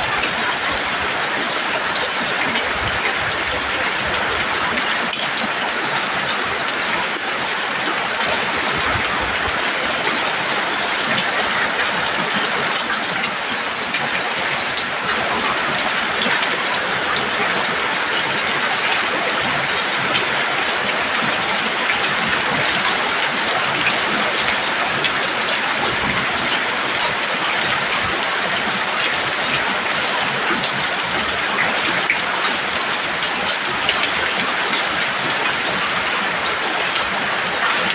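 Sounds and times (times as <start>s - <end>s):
heavy rain on a roof: 0.0s - 37.9s.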